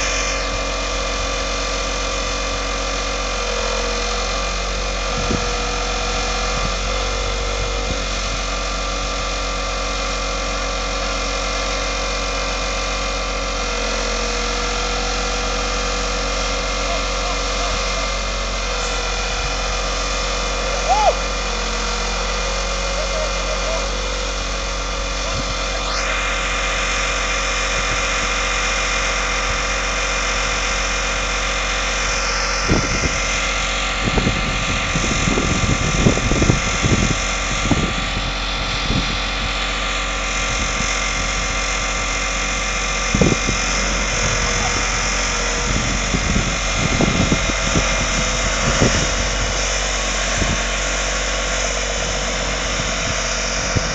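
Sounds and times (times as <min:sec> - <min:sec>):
vehicle engines running: 0:00.0 - 0:53.9.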